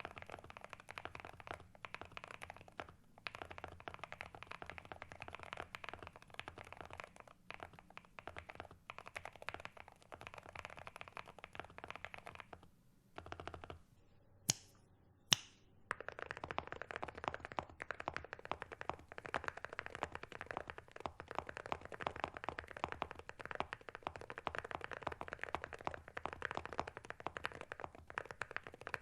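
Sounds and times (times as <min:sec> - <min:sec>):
mechanical keyboard typing: 0:00.0 - 0:13.8, 0:15.9 - 0:29.0.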